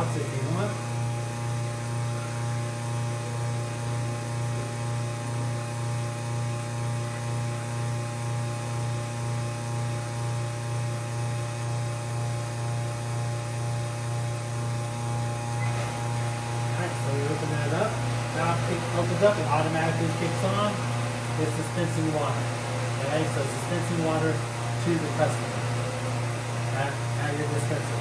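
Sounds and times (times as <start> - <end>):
water pump motor humming: 0.0 - 28.0.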